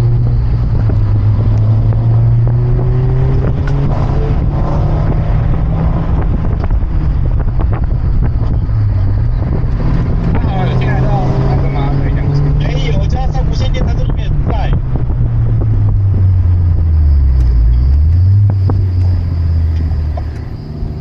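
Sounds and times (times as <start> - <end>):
car engine running: 0.0 - 21.0
wind noise on microphone: 0.0 - 21.0.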